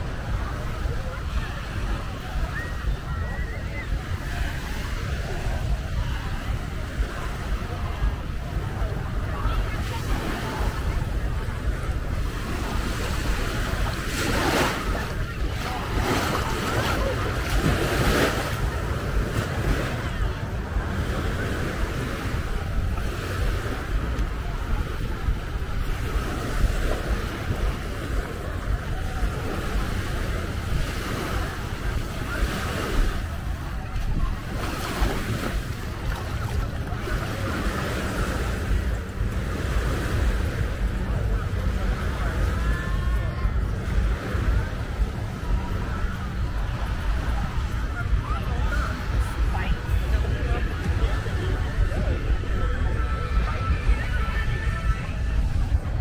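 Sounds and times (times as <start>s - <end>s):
small waves washing ashore: 0.0s - 56.0s
wind buffeting microphone: 0.0s - 56.0s.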